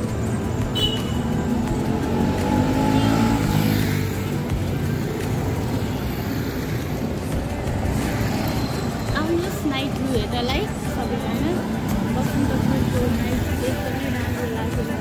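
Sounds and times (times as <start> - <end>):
motorcycles passing: 0.0 - 15.0
street noise hum: 0.0 - 15.0.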